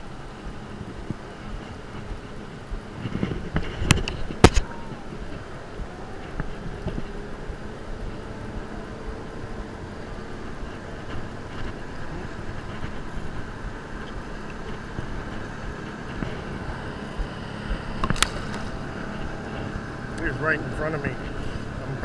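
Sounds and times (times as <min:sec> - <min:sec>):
motorboats droning: 0:00.0 - 0:22.0
wind buffeting microphone: 0:00.0 - 0:22.0.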